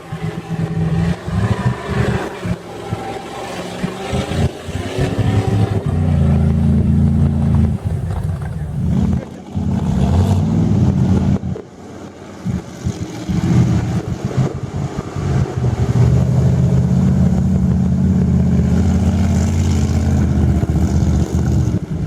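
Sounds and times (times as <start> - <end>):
truck engine running hard: 0.0 - 22.0.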